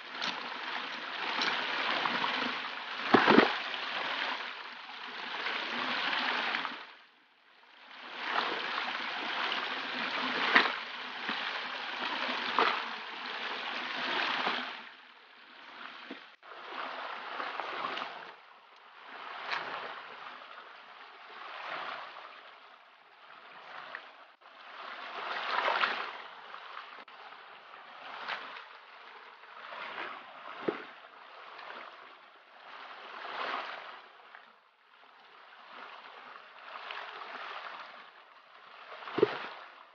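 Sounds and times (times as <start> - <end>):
river water running and splashing: 0.0 - 7.1, 7.7 - 39.9.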